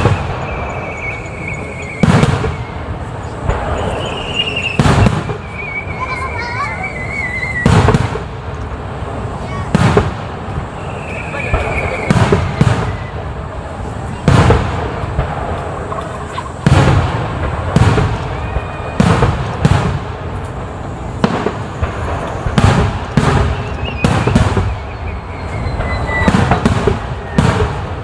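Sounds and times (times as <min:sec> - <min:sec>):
fireworks bursting with booms: 0:00.0 - 0:28.0.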